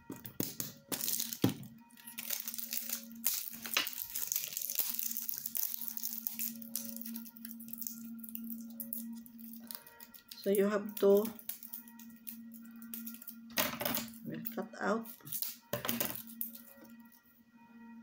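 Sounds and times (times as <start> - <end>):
plastic crinkling and tearing: 0.2 - 14.2, 15.1 - 17.0.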